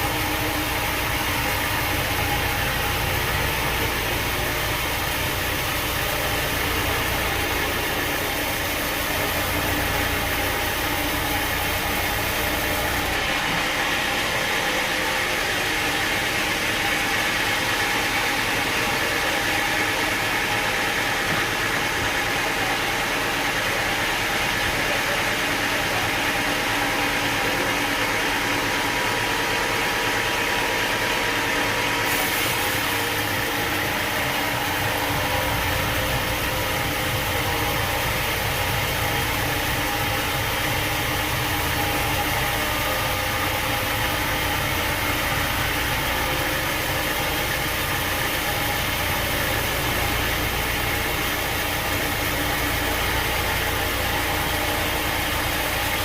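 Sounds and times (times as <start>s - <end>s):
sawmill machinery droning: 0.0s - 56.0s.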